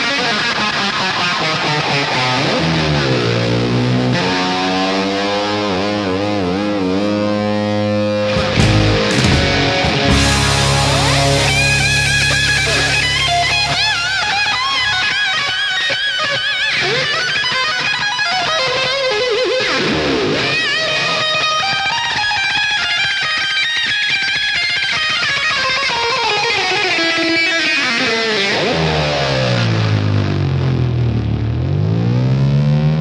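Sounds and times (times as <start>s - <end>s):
electric guitar solo: 0.0s - 33.0s.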